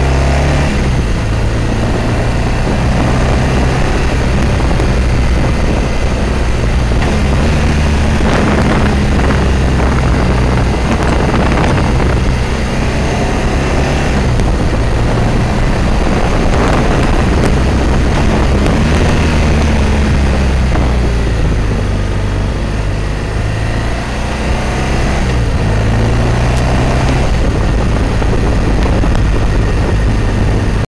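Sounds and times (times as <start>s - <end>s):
motorcycle engine running: 0.0s - 30.9s
wind rushing on microphone: 0.0s - 30.9s.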